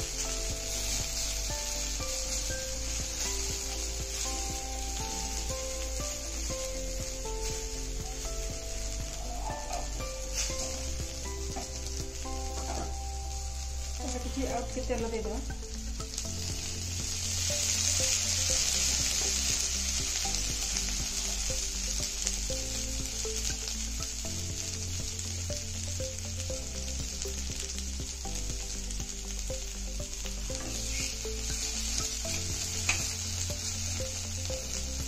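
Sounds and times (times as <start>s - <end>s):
potatoes sizzling in oil: 0.0s - 35.0s.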